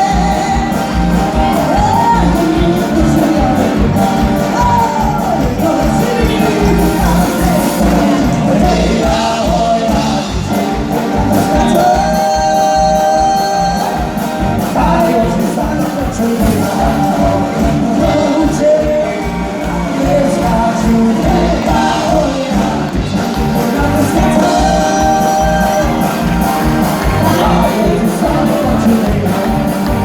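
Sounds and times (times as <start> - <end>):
drum beat: 0.0 - 30.0
person singing: 0.0 - 30.0.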